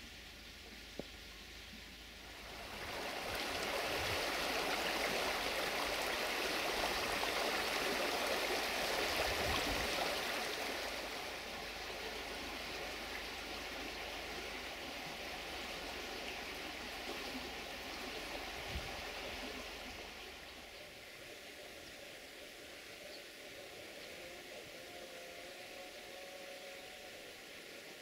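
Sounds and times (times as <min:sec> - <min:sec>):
brook babbling: 0:00.0 - 0:28.0.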